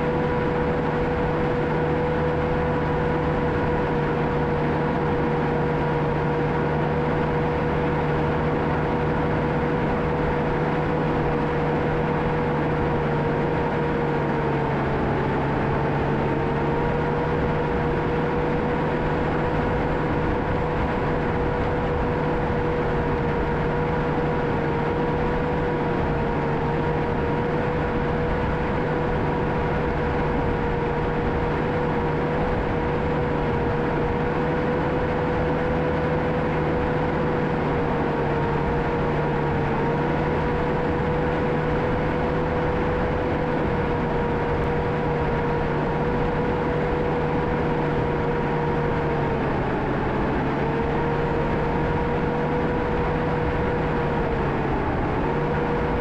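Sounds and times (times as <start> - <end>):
diesel bulldozer rumble: 0.0 - 56.0.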